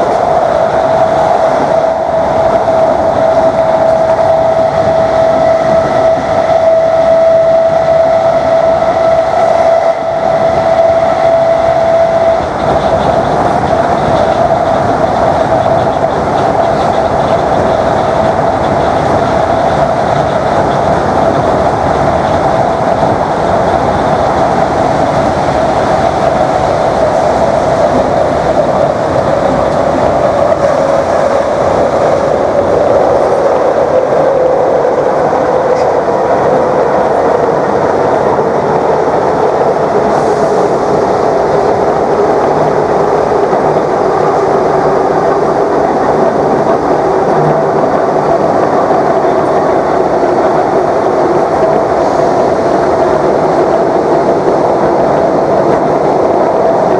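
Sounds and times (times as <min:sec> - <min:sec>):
heavy train running noise: 0:00.0 - 0:56.9
train traction motors whining: 0:00.0 - 0:56.9.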